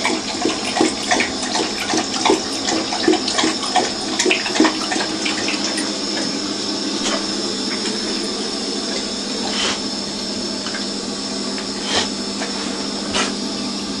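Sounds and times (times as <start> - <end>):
water running into bowl: 0.0 - 14.0.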